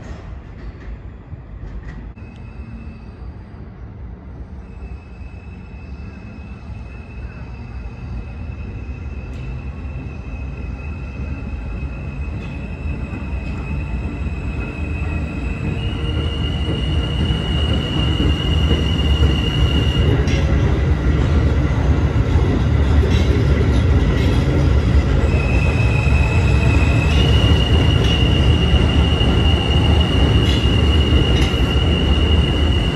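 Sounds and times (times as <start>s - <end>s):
subway train wheels rumbling: 0.0s - 32.9s.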